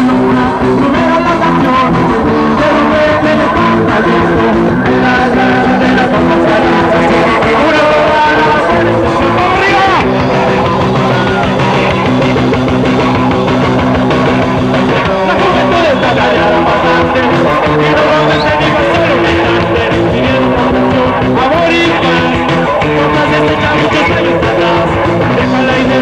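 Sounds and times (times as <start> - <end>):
bass guitar: 0.0 - 26.0
drums: 0.0 - 26.0
electric guitar: 0.0 - 26.0.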